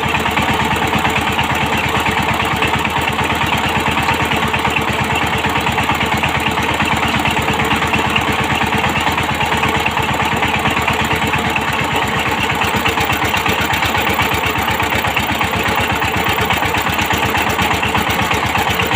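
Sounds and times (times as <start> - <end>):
diesel engine chugging: 0.0 - 18.9.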